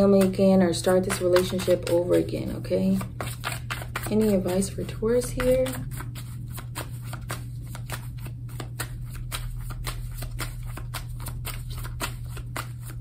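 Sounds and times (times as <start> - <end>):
cards being shuffled: 0.0 - 13.0
steady low hum: 0.0 - 13.0.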